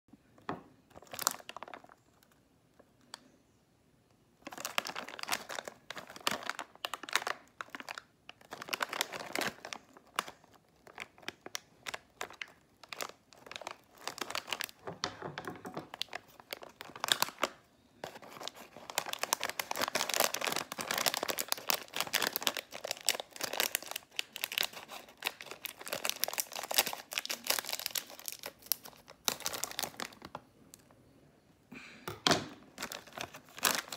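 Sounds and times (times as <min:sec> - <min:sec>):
plastic packet crinkling: 0:00.9 - 0:02.4, 0:04.4 - 0:30.8, 0:32.7 - 0:33.9.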